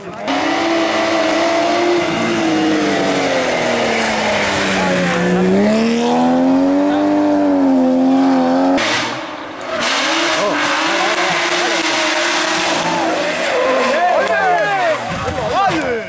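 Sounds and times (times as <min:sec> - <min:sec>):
rally car engine at full throttle: 0:00.0 - 0:15.8.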